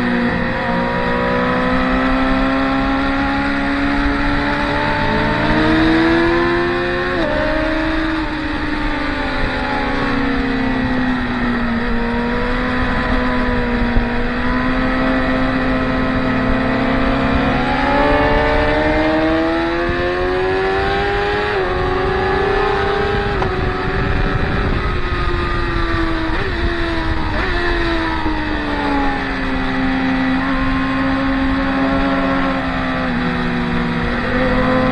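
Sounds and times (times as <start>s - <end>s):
motorcycle engines at high revs: 0.0s - 34.9s.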